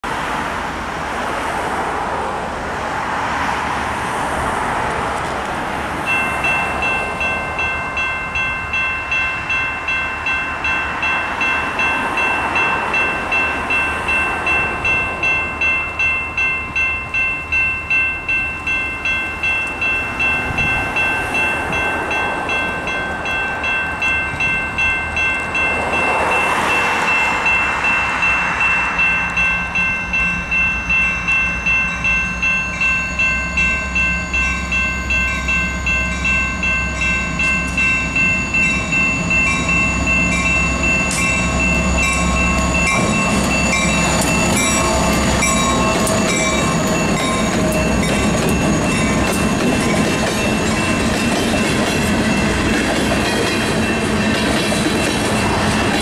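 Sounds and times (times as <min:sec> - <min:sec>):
railroad crossing bell ringing: 0:05.8 - 0:56.0.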